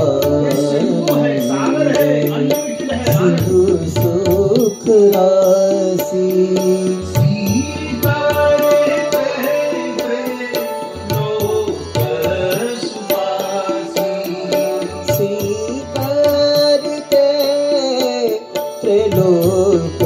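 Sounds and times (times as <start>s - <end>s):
man singing: 0.0s - 20.0s
tabla strokes: 0.0s - 20.0s.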